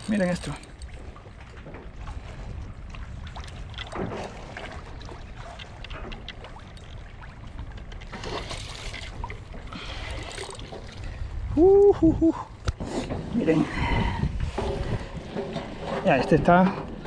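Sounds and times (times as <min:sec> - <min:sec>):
wind rumble on microphone: 0:00.7 - 0:17.0.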